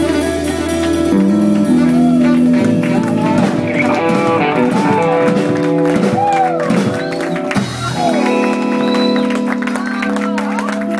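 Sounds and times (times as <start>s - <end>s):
bending lead guitar notes: 0.0s - 10.9s
live blues band playing: 0.0s - 10.9s.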